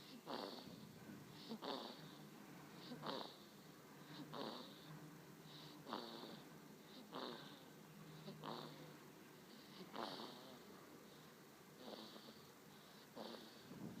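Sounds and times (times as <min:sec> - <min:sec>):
baby snoring: 0:00.0 - 0:14.0.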